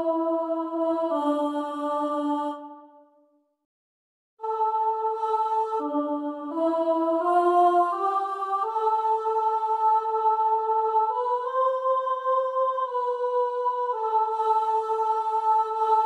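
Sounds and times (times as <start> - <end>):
soprano voice singing a hymn: 0.0 - 2.9, 4.4 - 16.0.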